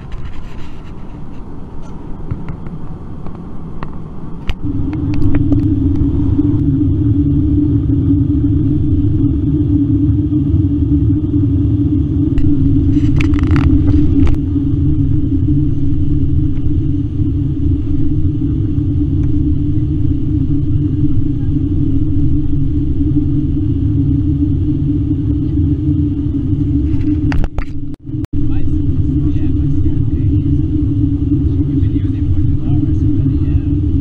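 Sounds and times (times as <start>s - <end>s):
airliner cabin rumble: 0.0s - 34.0s
constant hum: 0.0s - 34.0s.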